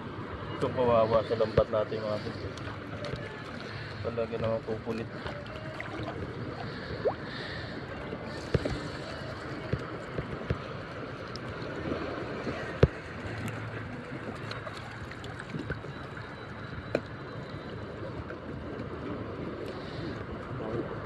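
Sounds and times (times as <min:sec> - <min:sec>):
seawater sloshing and lapping: 0:01.2 - 0:20.2.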